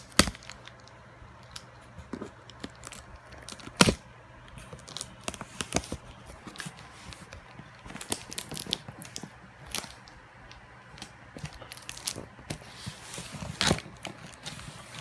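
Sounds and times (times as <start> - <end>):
toy packaging crackling and crunching: 0.0 - 15.0.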